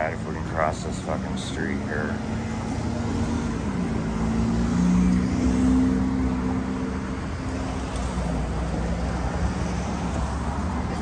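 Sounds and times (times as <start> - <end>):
low rumble of street traffic: 0.0 - 11.0
vehicle engine hum: 0.0 - 11.0.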